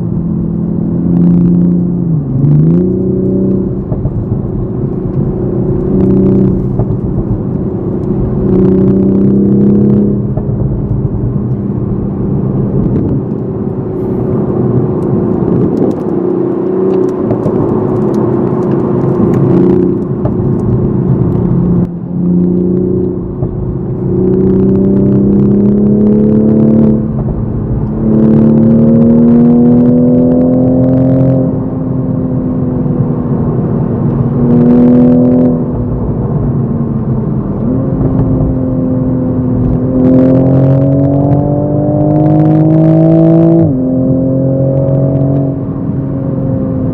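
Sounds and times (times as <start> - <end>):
car engine accelerating and shifting: 0.0 - 46.9.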